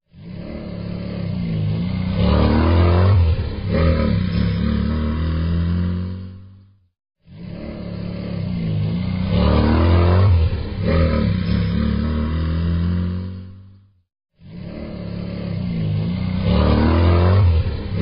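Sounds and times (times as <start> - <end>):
racing car engine revving: 0.1 - 18.0.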